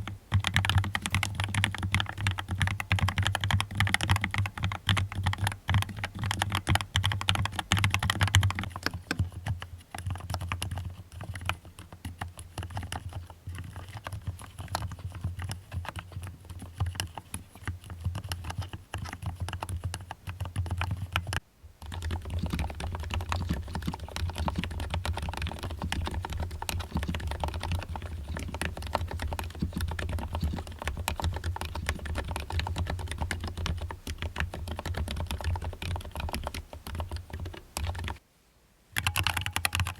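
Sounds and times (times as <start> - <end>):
typing on mechanical keyboard: 0.0 - 38.2, 39.0 - 39.9.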